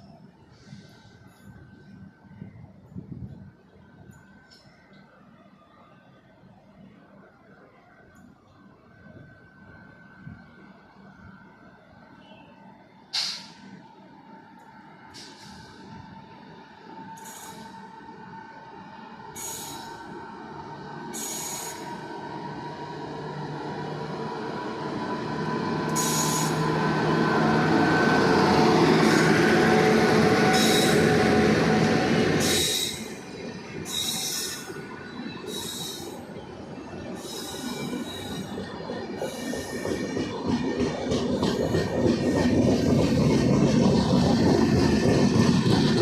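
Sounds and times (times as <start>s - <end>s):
train rumbling past: 9.0s - 46.0s.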